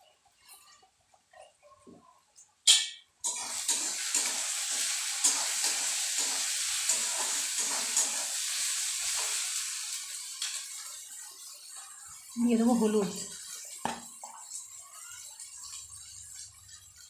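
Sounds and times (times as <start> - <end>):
vegetables sizzling in hot oil: 2.7 - 17.0.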